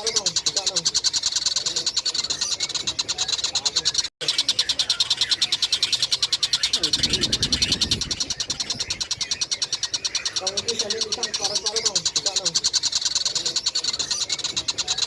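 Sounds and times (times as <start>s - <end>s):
kingfisher trilling call: 0.0s - 15.0s.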